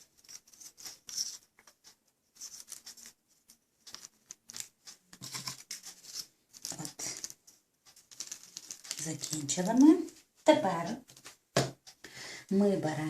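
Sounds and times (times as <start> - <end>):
crackers clicking and scraping: 0.0 - 12.0.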